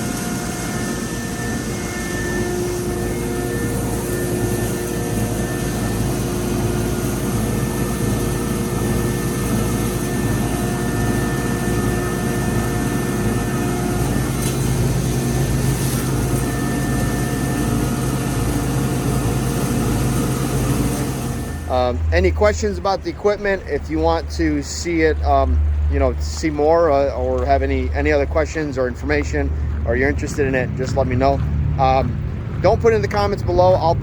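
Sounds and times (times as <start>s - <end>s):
loud steady machine drone: 0.0s - 34.0s.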